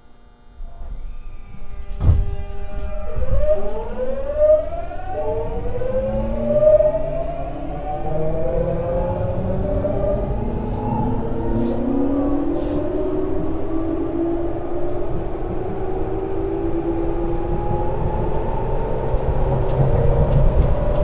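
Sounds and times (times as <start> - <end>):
electric train motor whine: 0.0 - 21.0
rail rumble: 0.7 - 21.0.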